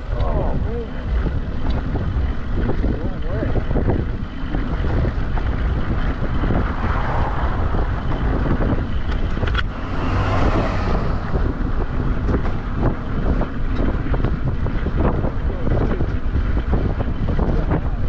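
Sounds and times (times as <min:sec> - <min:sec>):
low riding rumble: 0:00.0 - 0:18.0
wind rushing over microphone: 0:00.0 - 0:18.0.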